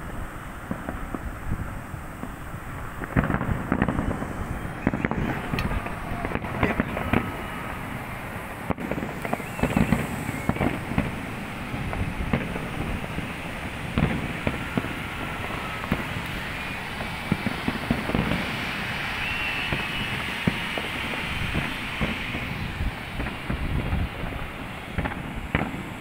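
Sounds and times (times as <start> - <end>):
distant fireworks bangs and crackles: 0.0 - 26.0.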